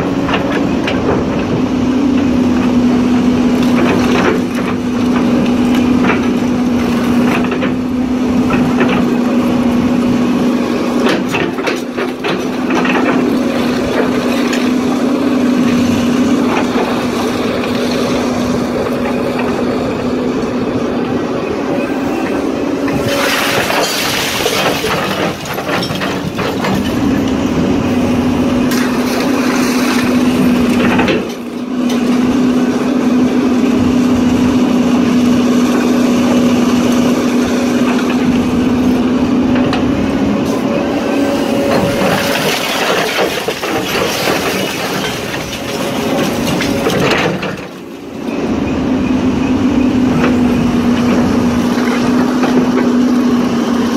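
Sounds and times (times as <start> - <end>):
excavator diesel engine and hydraulics: 0.0 - 53.9.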